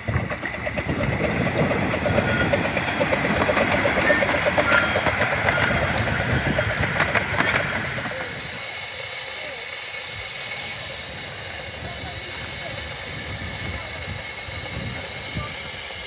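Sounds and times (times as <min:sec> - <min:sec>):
train wheels clattering on rails: 0:00.0 - 0:16.0.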